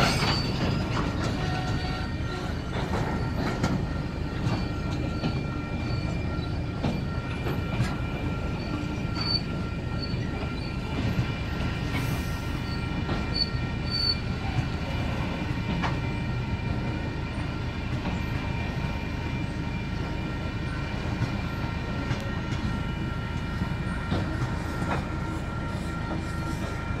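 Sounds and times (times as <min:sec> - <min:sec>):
steel wheels rumbling on rail: 0:00.0 - 0:27.0.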